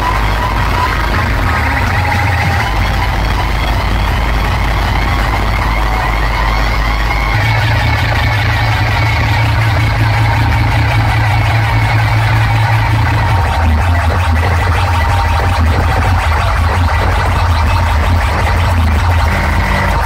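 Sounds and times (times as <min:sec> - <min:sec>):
heavy bass drone: 0:00.0 - 0:20.0
wavering synth line: 0:00.0 - 0:20.0.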